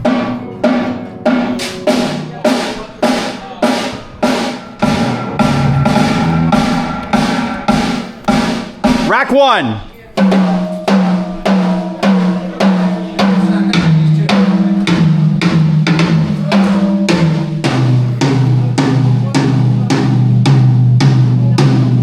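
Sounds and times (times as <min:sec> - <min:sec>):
tom drums struck: 0:00.0 - 0:09.4, 0:10.2 - 0:22.0.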